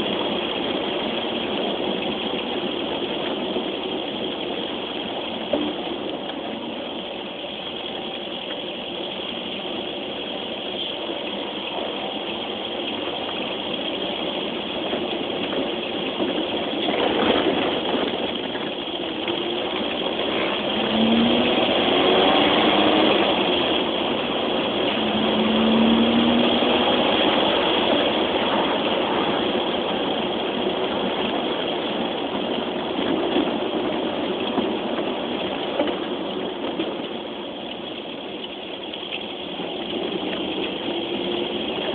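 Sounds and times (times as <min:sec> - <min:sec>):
car engine running: 0:00.0 - 0:41.9
road noise: 0:00.0 - 0:41.9.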